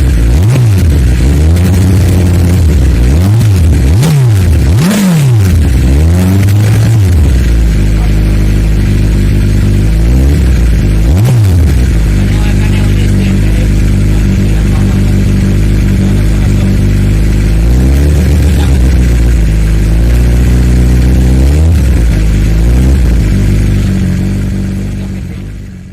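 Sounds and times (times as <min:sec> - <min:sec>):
motorcycle engine idling and revving: 0:00.0 - 0:25.9.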